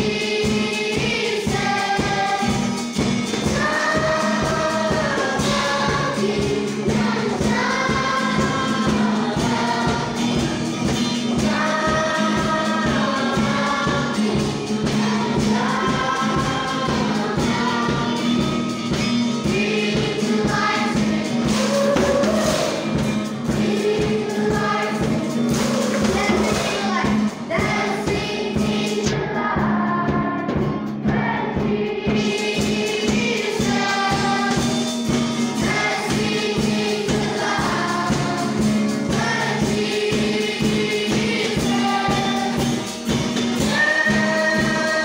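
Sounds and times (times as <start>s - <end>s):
acoustic guitar strumming: 0.0s - 45.0s
group singing a gospel song: 0.0s - 45.0s.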